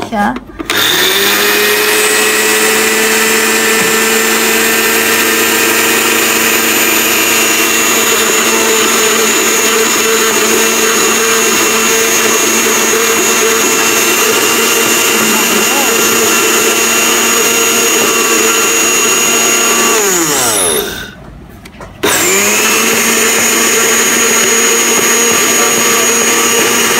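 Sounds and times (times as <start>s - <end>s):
blender grinding seeds: 0.6s - 21.2s, 22.0s - 26.9s.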